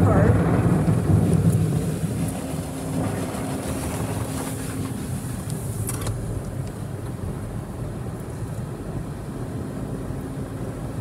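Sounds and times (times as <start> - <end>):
car wash machinery running: 0.0 - 11.0.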